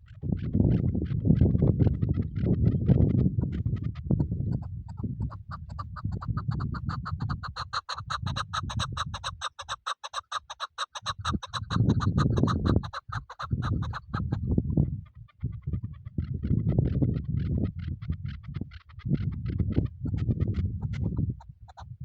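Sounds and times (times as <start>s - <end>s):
partridge clucking call: 0.0s - 21.9s.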